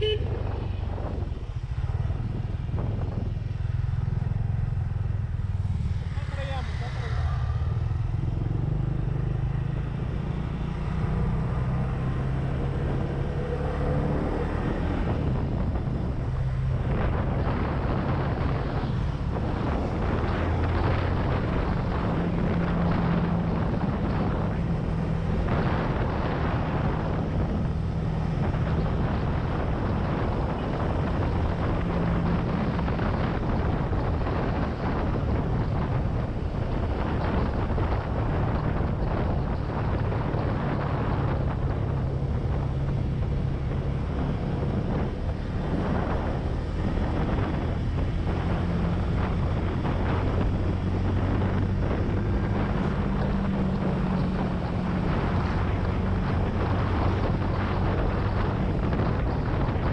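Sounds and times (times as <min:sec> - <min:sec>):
wind noise: 0:00.0 - 0:59.9.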